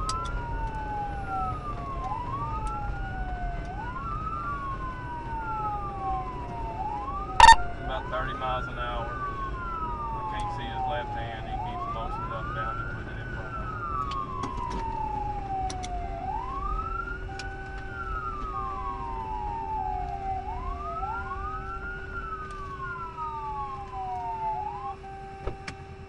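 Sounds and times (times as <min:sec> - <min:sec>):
car road and engine noise: 0:00.0 - 0:26.0
police siren wailing: 0:00.0 - 0:26.0.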